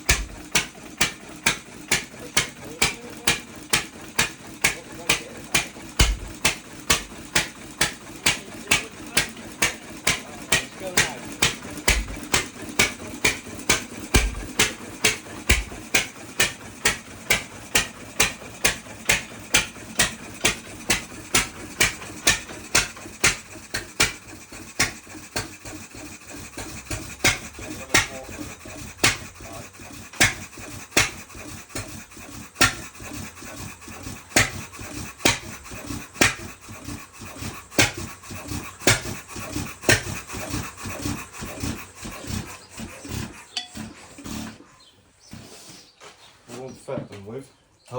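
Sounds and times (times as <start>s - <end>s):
stationary engine exhaust beats: 0.0s - 45.8s.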